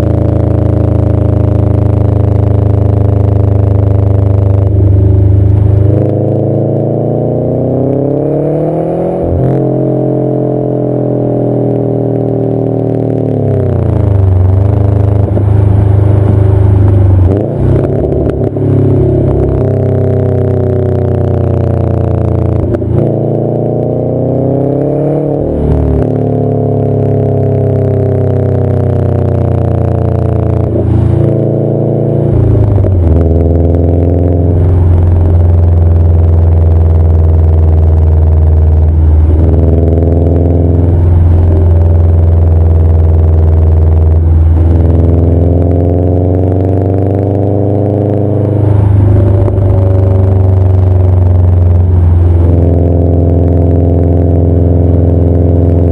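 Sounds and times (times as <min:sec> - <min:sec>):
car exhaust drone while driving: 0:00.0 - 0:55.9.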